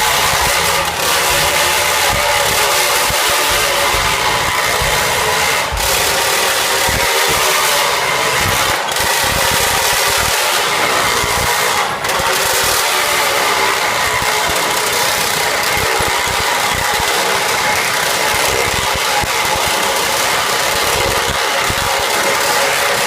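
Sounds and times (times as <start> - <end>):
engines droning: 0.0 - 23.0.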